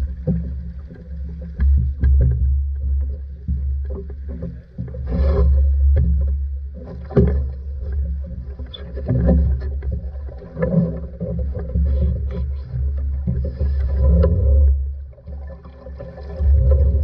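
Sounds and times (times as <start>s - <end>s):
knocks from the boat: 0.0s - 15.5s
water splashing against hull: 0.0s - 17.0s
wind rumble on microphone: 0.0s - 17.0s.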